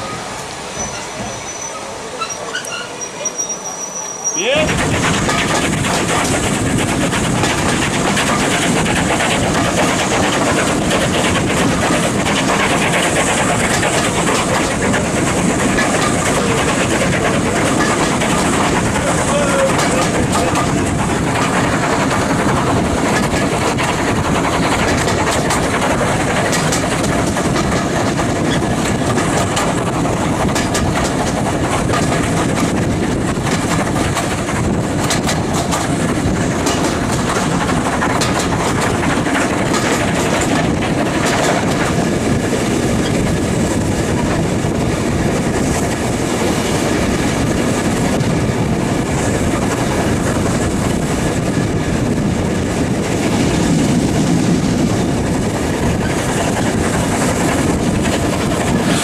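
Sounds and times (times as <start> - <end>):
rail clicks: 0.0 - 59.0
train wheels rumbling on rails: 0.0 - 59.0.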